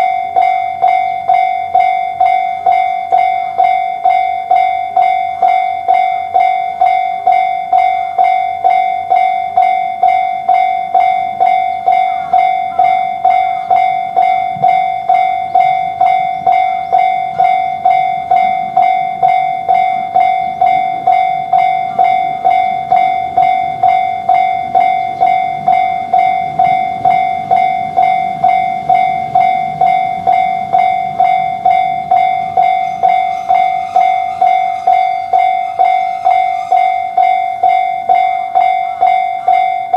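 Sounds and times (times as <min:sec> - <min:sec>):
railroad crossing bell ringing: 0:00.0 - 0:39.9
train rumble: 0:00.0 - 0:39.9.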